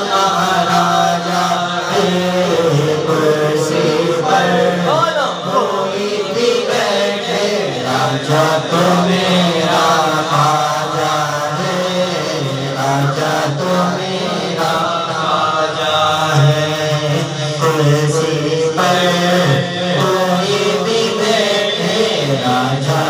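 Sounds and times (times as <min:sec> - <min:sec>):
man singing devotional song: 0:00.0 - 0:23.0.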